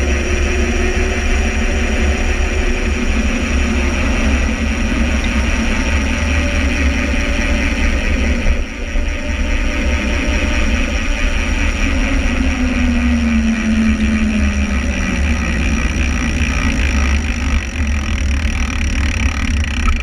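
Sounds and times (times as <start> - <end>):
bike tyre rumble: 0.0 - 20.0
humming tone sliding down: 0.0 - 20.0.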